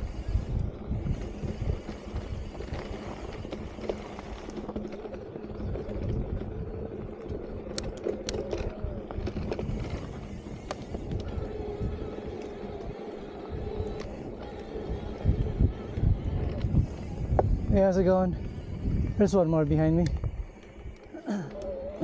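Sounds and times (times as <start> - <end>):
stones clicking or bike rattle: 0.0 - 22.0
tyres rumbling on dirt trail: 0.0 - 22.0
wind on microphone: 0.0 - 22.0.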